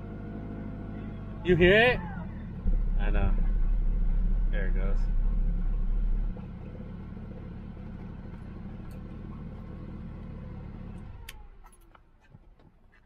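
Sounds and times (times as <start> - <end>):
car engine idling: 0.0 - 12.3.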